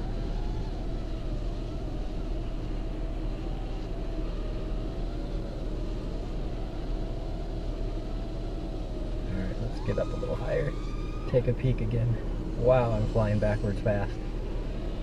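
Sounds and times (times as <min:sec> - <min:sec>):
faint wavering whine: 0:00.0 - 0:15.0.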